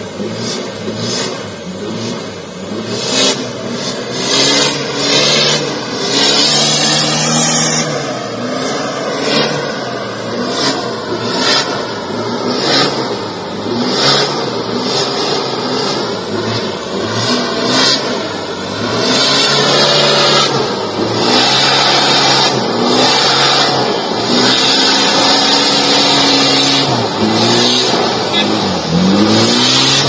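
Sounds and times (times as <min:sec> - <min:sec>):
diesel engine revving hard: 0:00.0 - 0:30.0.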